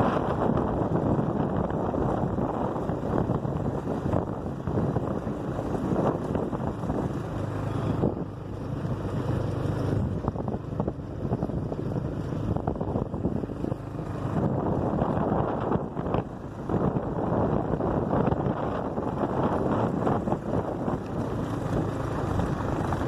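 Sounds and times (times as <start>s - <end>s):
road rumble: 0.0s - 23.0s
vehicle engine running: 0.0s - 23.0s
wind on microphone: 0.0s - 23.0s.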